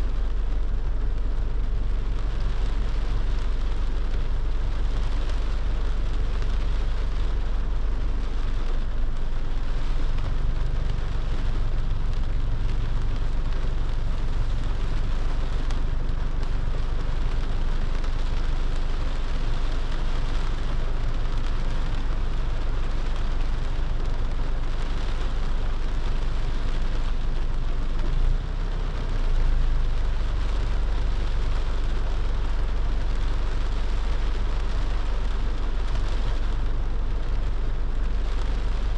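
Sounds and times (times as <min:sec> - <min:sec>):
car low rumble: 0:00.0 - 0:38.9
rain and wet road hiss: 0:00.0 - 0:38.9.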